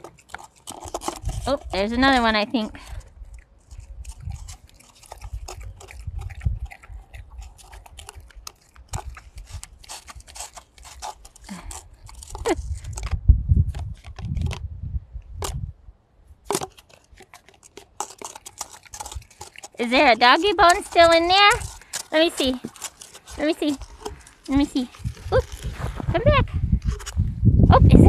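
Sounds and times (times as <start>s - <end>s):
dog crunching biscuits: 0.0s - 14.6s, 16.5s - 26.0s
dog licking from paper cup: 0.0s - 14.6s, 16.5s - 25.7s.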